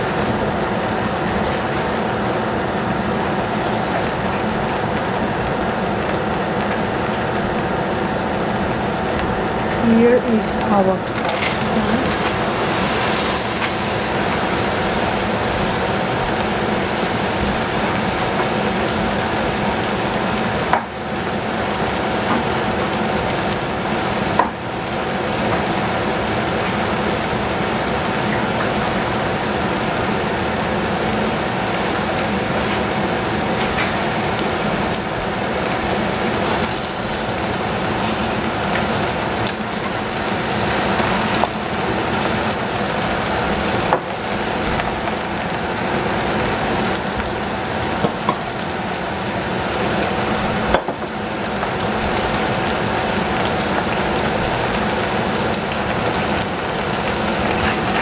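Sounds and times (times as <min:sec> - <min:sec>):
vegetables sizzling in a pot: 0:00.0 - 0:58.0.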